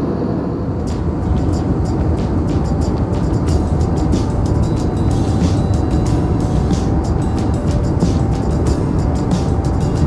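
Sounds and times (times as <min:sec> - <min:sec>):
low steady rumble: 0:00.0 - 0:10.0
background music with steady beat: 0:00.8 - 0:10.0.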